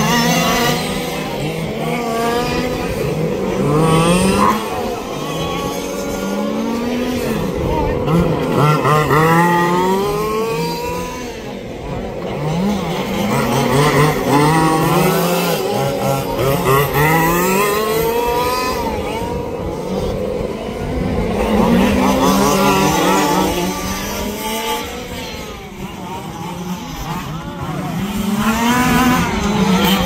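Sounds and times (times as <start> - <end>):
small two-stroke engines buzzing: 0.0 - 30.0.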